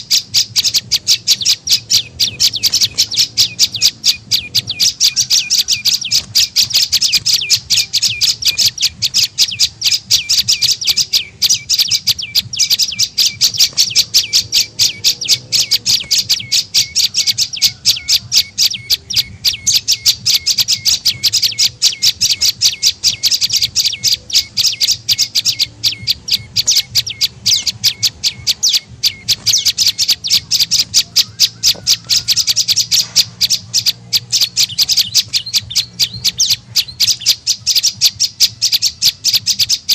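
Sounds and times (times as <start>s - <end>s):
bird chipping call: 0.0s - 39.9s.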